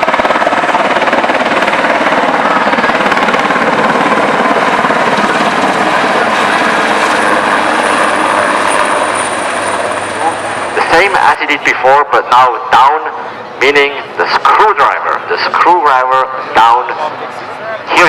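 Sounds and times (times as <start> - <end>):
helicopter rotor chopping: 0.0 - 18.0.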